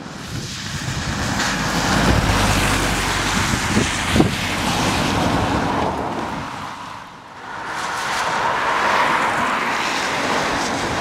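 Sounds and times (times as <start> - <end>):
lorry passing on wet road: 0.0 - 11.0
wind on microphone: 0.0 - 11.0.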